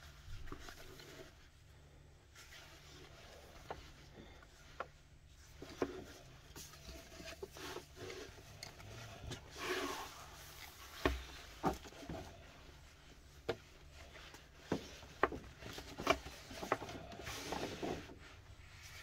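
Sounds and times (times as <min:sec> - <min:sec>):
mesh fabric rustling: 0:02.3 - 0:19.0.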